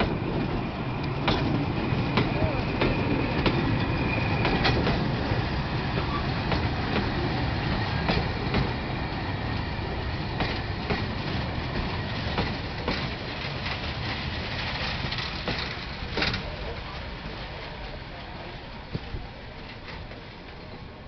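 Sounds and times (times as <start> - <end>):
railway wheels rumbling on rail: 0.0 - 21.0
wheels clacking over rail joints: 0.0 - 21.0.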